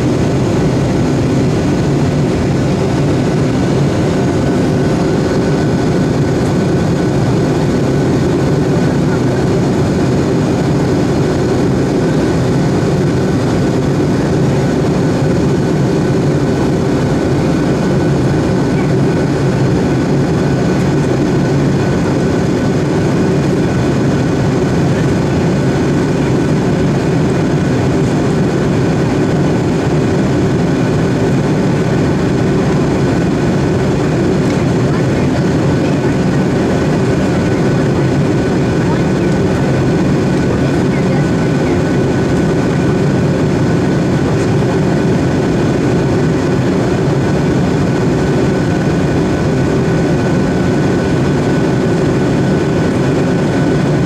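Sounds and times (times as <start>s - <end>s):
jet engines and airflow: 0.0s - 54.0s.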